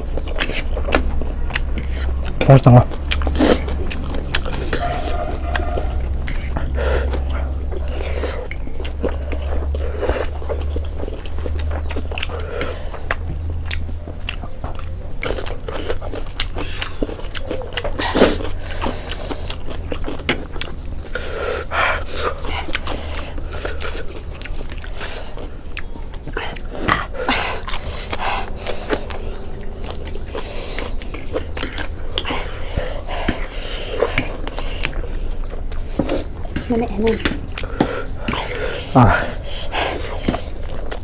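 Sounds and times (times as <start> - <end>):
mouth clicks: 0.0 - 41.0
steady low hum: 0.0 - 41.0
wet chewing: 0.0 - 41.0.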